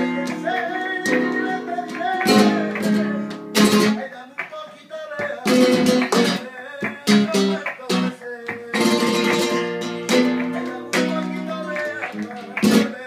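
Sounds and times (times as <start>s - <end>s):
guitar strummed chords: 0.0s - 4.0s, 5.4s - 13.0s.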